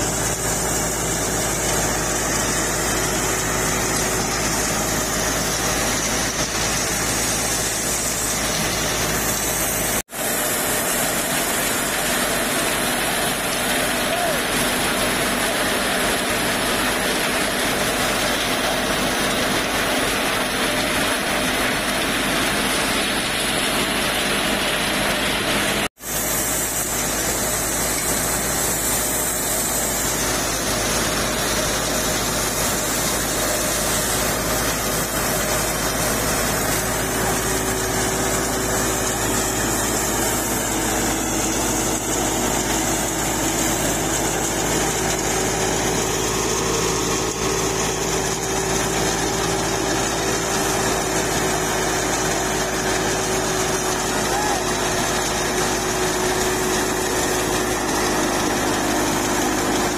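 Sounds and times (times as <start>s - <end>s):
thresher churning straw: 0.0s - 59.9s
tractor diesel engine: 0.0s - 59.9s.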